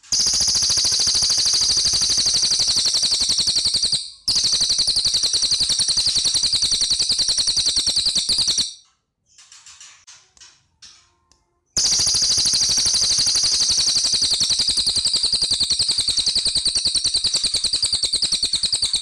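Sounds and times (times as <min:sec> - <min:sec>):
bird high-pitched trill: 0:00.0 - 0:08.8, 0:11.8 - 0:19.0.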